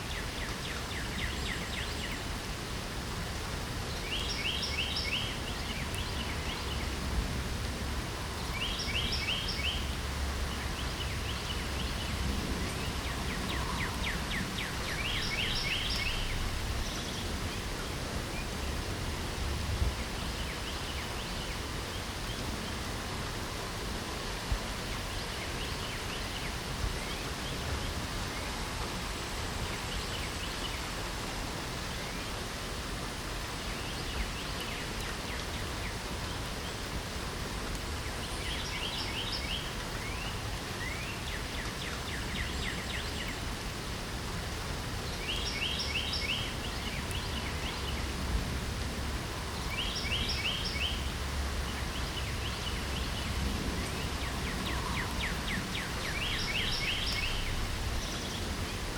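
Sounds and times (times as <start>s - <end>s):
light rain hissing: 0.0s - 58.9s.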